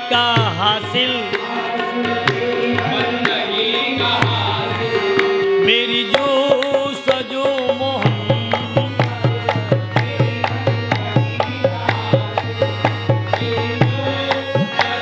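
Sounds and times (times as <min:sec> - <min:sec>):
harmonium melody: 0:00.0 - 0:15.0
men singing: 0:00.0 - 0:15.0
chorus clapping in time: 0:01.3 - 0:15.0.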